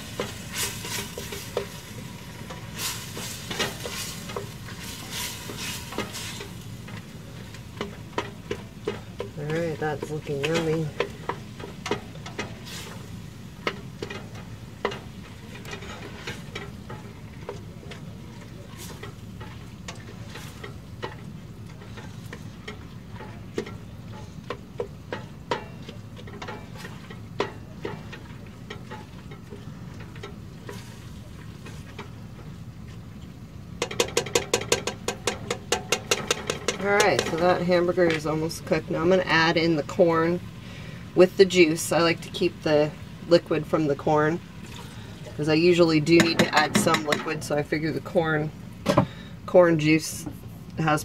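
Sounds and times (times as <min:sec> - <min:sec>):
utensil scraping and tapping pot: 0:00.0 - 0:32.2, 0:33.8 - 0:40.4, 0:45.5 - 0:48.0
meat frying in a pot: 0:00.0 - 0:51.0.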